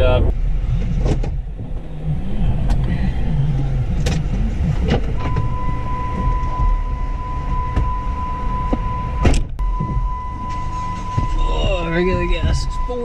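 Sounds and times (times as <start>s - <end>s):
car door opening: 0.0s - 13.0s
low steady rumble: 0.0s - 13.0s
dashboard warning tone: 1.5s - 13.0s.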